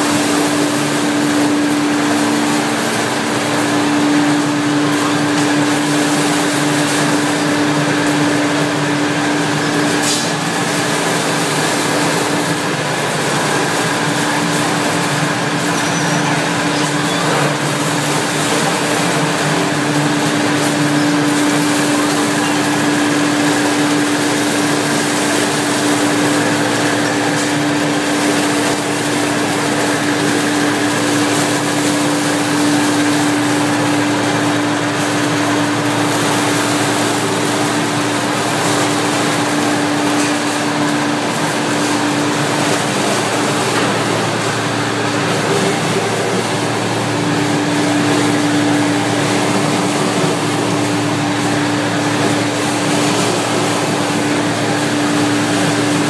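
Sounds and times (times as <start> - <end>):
machinery running: 0.0 - 56.0.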